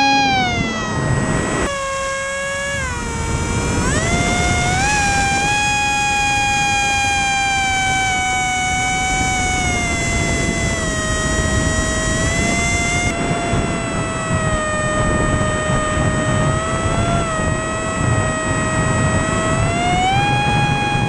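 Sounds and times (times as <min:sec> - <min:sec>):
electric motor and propeller whining: 0:00.0 - 0:21.0
wind rushing over microphone: 0:00.0 - 0:21.0.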